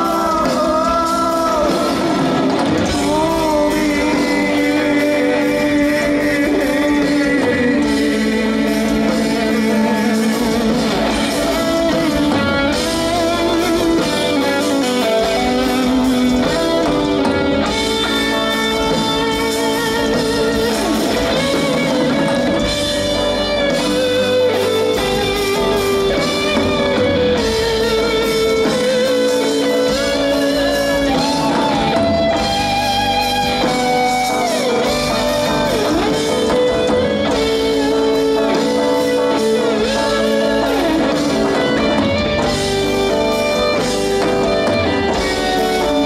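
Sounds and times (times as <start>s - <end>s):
distorted electric guitar lead: 0.0s - 46.0s
heavy metal band playing live: 0.0s - 46.0s.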